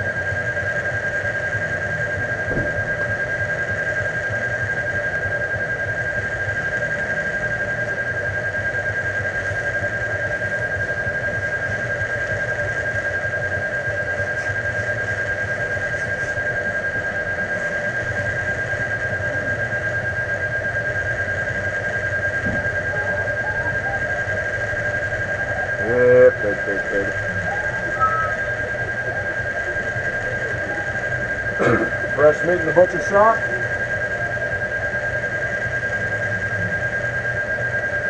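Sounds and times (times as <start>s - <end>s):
continuous high whine: 0.0s - 38.0s
low pulsing hum: 0.0s - 38.0s.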